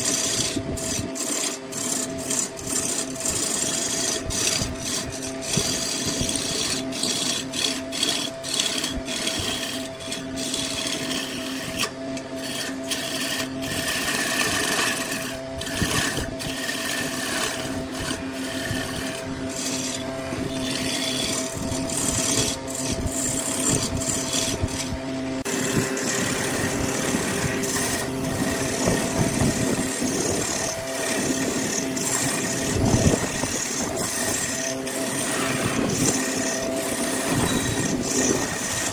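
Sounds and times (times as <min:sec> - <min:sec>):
turning tool scraping wood: 0:00.0 - 0:38.9
wood lathe motor hum: 0:00.0 - 0:38.9.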